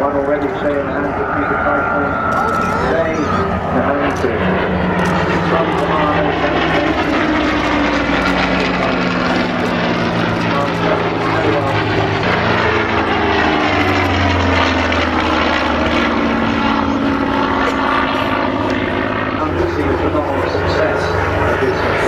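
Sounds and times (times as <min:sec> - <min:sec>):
propeller plane engine flying past: 0:00.0 - 0:22.0.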